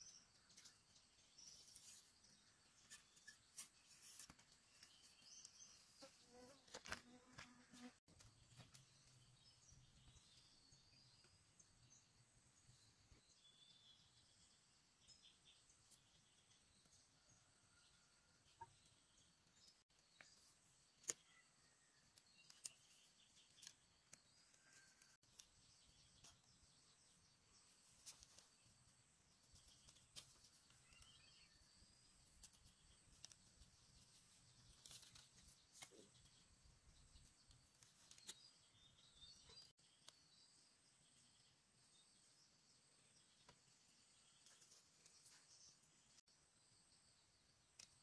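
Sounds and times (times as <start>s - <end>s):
faint bird chirps: 8.1s - 48.0s.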